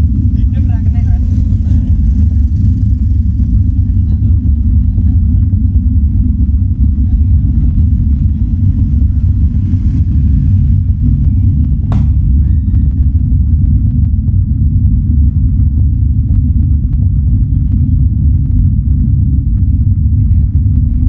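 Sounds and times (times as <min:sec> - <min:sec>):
loud deep bass: 0:00.0 - 0:21.0.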